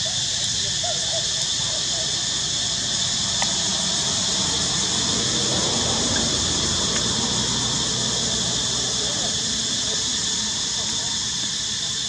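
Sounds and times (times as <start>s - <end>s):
forest insects chorus: 0.0s - 12.0s.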